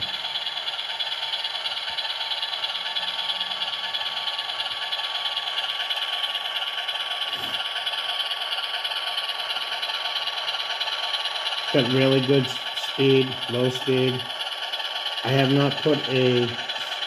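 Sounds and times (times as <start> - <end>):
diesel engine rumble from small speaker: 0.0 - 17.0.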